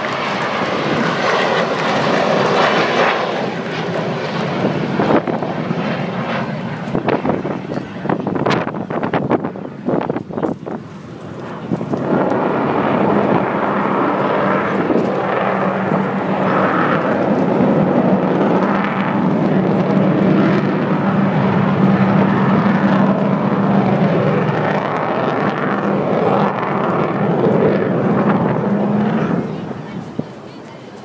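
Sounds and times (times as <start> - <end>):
loud jet engine noise: 0.0 - 31.0
low hum: 0.0 - 31.0.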